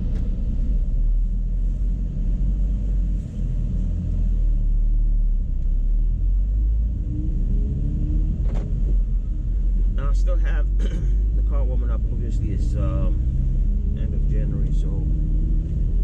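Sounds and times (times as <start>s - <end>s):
car engine idling low rumble: 0.0s - 16.0s.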